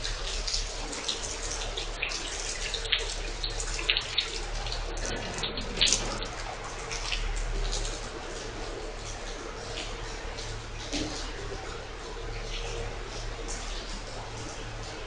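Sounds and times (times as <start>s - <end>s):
low steady hum: 0.0s - 15.0s
propeller churning water: 0.0s - 15.0s
water splashing: 0.0s - 15.0s.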